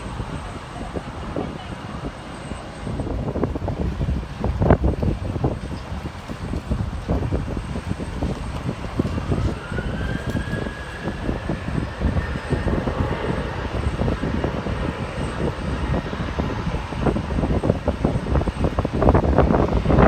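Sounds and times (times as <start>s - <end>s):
jet engines whining: 0.0s - 20.0s
wind rumble on microphone: 0.0s - 20.0s.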